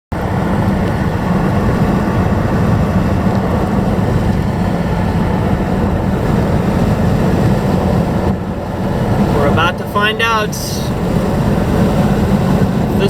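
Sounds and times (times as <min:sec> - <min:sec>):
car road noise rumble: 0:00.1 - 0:13.0.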